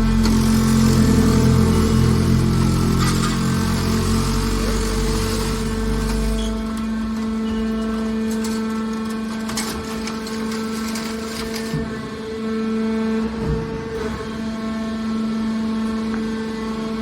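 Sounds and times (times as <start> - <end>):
hydraulic baler humming: 0.0 - 17.0.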